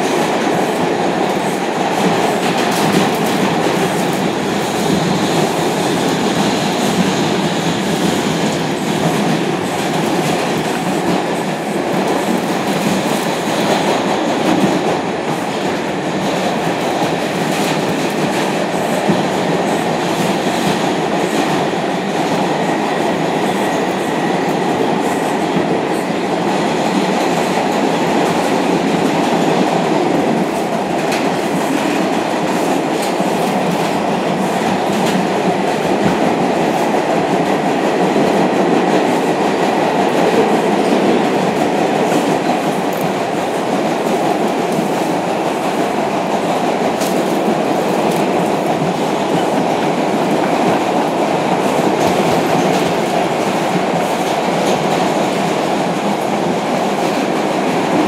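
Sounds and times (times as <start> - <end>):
subway wheels rumbling on rail: 0.0 - 58.0.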